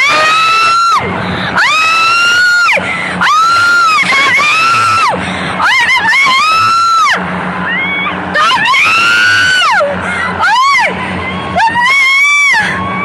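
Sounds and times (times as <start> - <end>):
woman screaming: 0.0 - 1.0, 1.6 - 13.0
low hum: 0.0 - 13.0.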